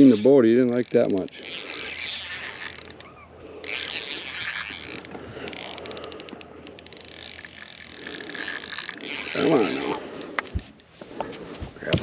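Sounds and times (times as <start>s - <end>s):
fishing reel ratcheting and clicking: 0.0s - 11.0s.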